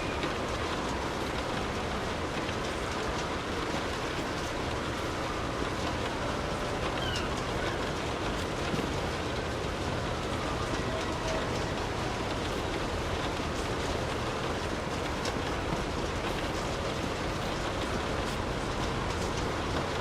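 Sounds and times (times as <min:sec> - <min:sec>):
steady rain hissing: 0:00.0 - 0:20.0.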